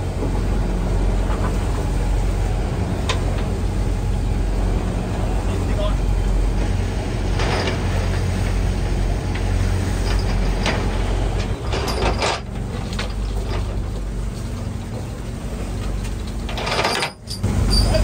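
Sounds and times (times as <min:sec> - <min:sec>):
boat engine low drone: 0:00.0 - 0:18.0
rush of wind and sea: 0:00.0 - 0:18.0.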